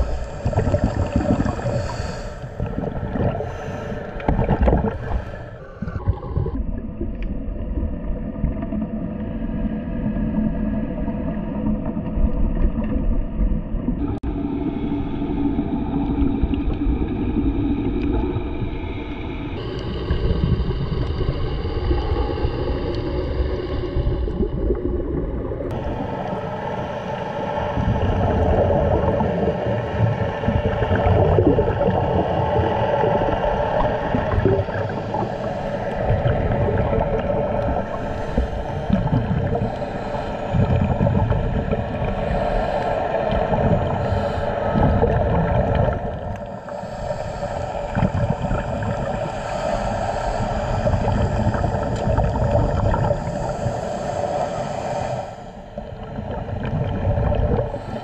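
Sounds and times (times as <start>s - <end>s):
boat engine droning: 0.0s - 58.0s
rushing gurgling water: 0.0s - 58.0s.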